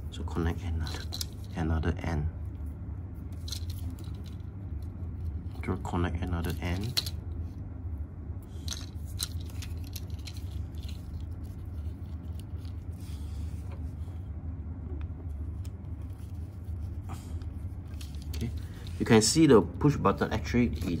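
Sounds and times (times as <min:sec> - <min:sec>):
low background hum: 0:00.0 - 0:21.0
wires being twisted by hand: 0:00.6 - 0:01.6, 0:02.4 - 0:07.7, 0:08.4 - 0:14.2, 0:14.8 - 0:21.0.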